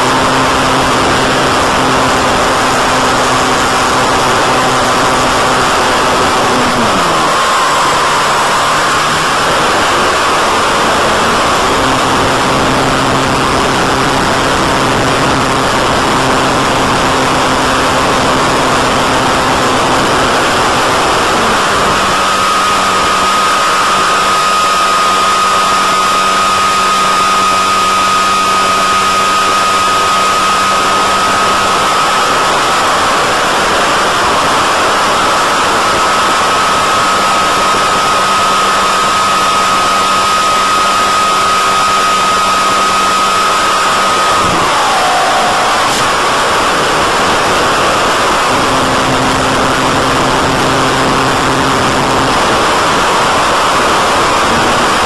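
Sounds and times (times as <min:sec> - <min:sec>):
electric motor and propeller hum: 0:00.0 - 0:55.0
thin steady whine: 0:00.0 - 0:55.0.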